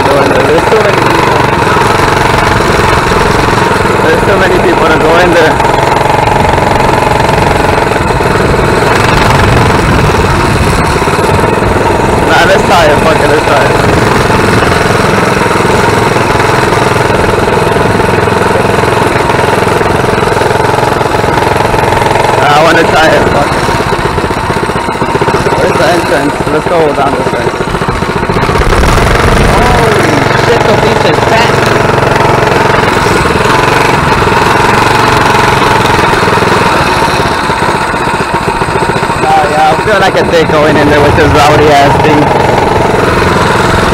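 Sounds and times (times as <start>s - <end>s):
small engine chugging: 0.0s - 43.9s.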